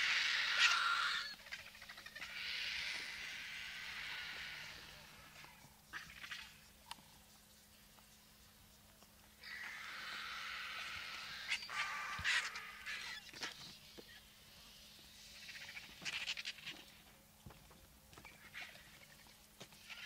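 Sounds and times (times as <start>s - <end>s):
vultures hissing: 0.0s - 6.8s, 7.7s - 17.0s
harsh rasping bird calls: 0.0s - 7.2s, 9.3s - 14.4s, 15.1s - 17.0s, 18.2s - 20.0s.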